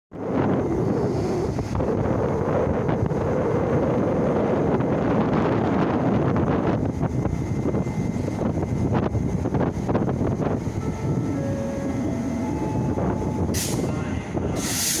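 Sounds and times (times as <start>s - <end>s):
locomotive motor hum: 0.2s - 15.0s
train rolling rumble: 0.2s - 15.0s.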